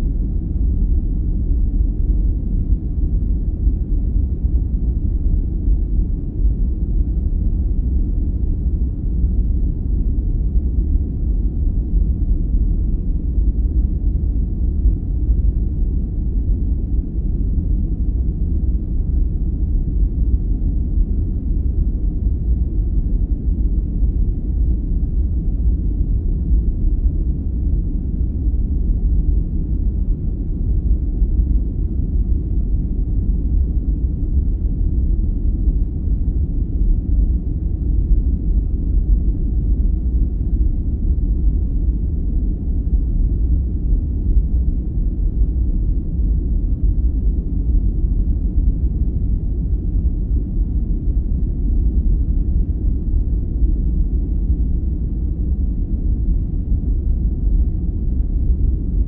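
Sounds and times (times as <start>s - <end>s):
deep muffled rumbling noise: 0.0s - 59.0s.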